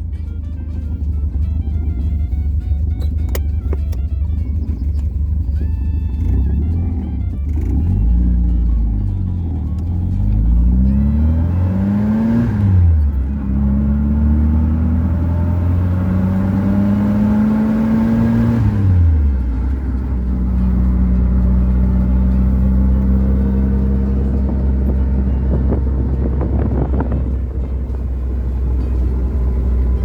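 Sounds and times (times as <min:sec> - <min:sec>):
car engine accelerating through gears: 0:00.7 - 0:30.0.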